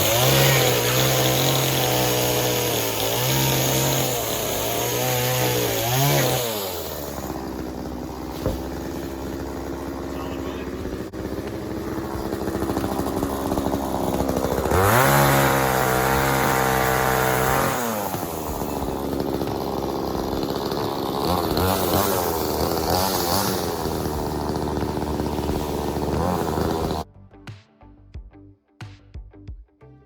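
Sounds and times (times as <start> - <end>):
chainsaw engine idling and revving: 0.0 - 27.1.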